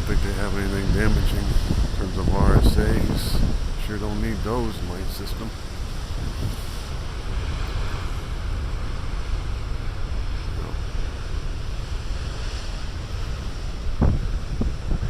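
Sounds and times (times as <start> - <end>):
ocean waves breaking: 0.0 - 15.0
wind buffeting microphone: 0.0 - 15.0.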